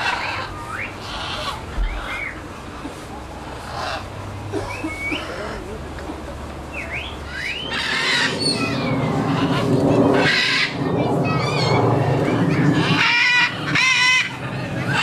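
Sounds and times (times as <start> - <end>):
parrots squawking: 0.0 - 2.4, 3.5 - 5.8, 6.7 - 11.8, 12.4 - 15.0.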